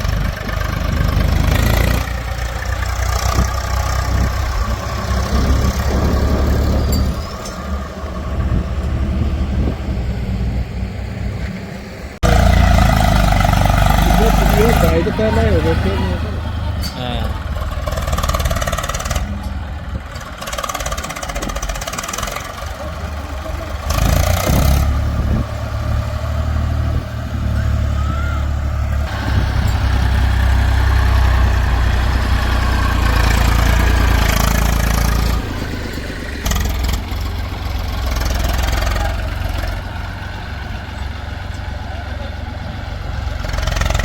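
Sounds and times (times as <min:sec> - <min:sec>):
diesel engine deep hum: 0:00.0 - 0:44.0.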